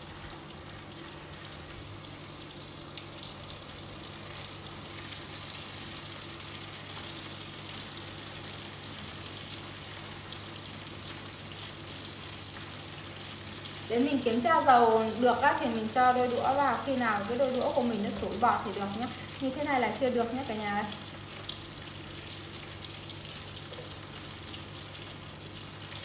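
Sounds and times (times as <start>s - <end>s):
oil sizzling in a pan: 0.0s - 26.0s.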